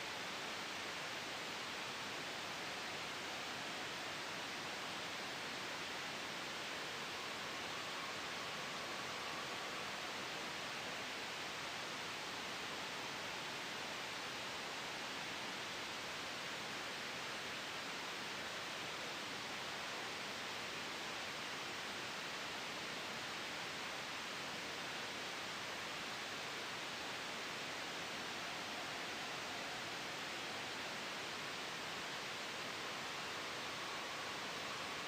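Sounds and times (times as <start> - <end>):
white noise hiss: 0.0 - 35.0.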